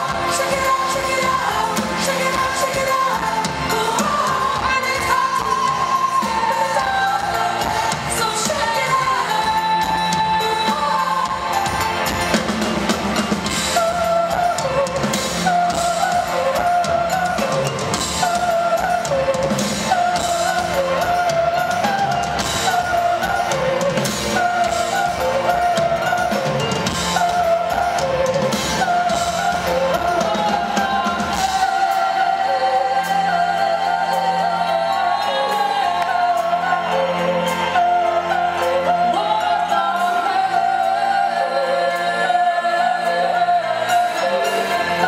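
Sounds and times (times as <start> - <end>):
woman singing: 0.0 - 12.6, 13.4 - 45.0
drum kit: 0.0 - 45.0
rock band playing: 0.0 - 45.0.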